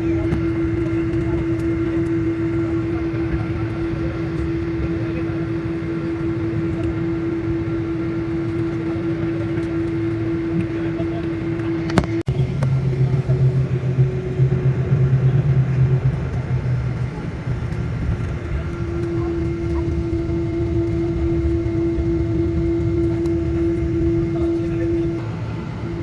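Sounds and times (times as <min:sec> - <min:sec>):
airliner cabin jet engine noise: 0:00.0 - 0:26.0.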